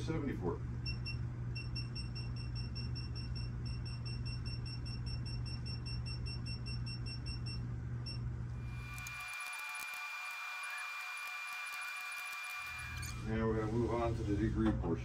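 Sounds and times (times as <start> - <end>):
steady low hum: 0.0 - 11.6, 12.4 - 15.0.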